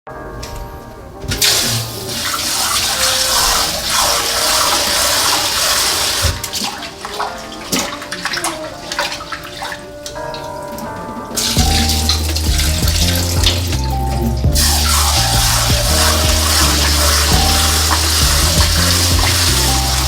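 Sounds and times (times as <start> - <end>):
water running: 1.2 - 20.0.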